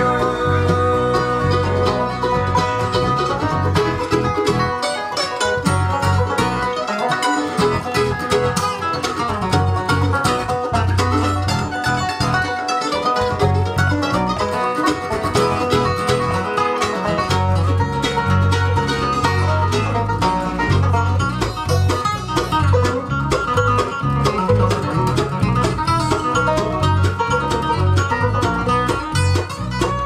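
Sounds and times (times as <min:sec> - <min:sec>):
banjo: 0:00.0 - 0:30.0
electric bass: 0:00.0 - 0:30.0
mandolin: 0:00.0 - 0:30.0
strummed acoustic guitar: 0:00.0 - 0:30.0.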